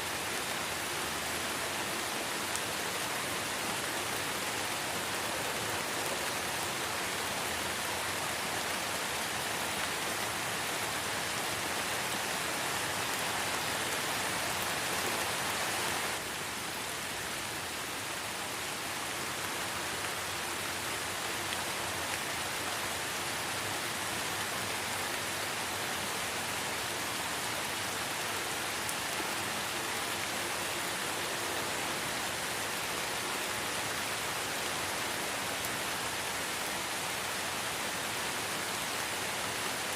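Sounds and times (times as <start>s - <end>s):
light rain in a forest: 0.0s - 39.9s.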